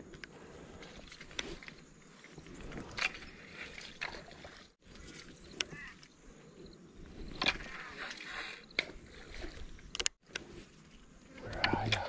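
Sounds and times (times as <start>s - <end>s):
water lapping against kayak hull: 0.3s - 12.0s.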